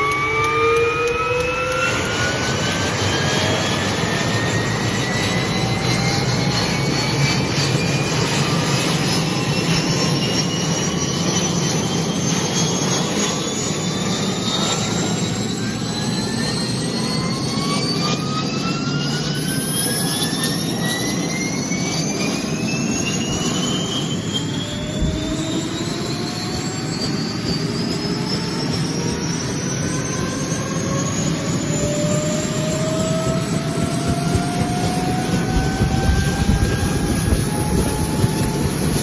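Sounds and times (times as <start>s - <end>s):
helicopter turbine whine rising: 0.0s - 39.0s.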